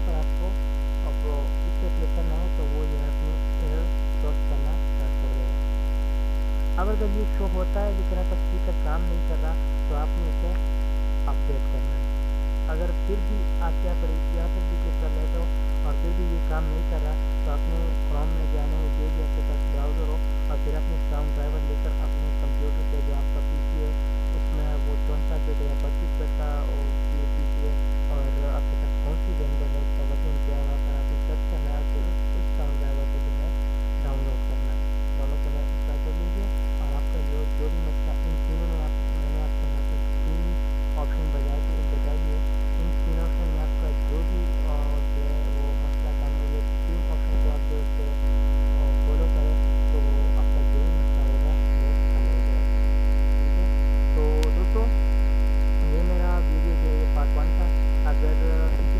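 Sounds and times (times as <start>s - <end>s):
electrical mains hum: 0.0s - 58.9s.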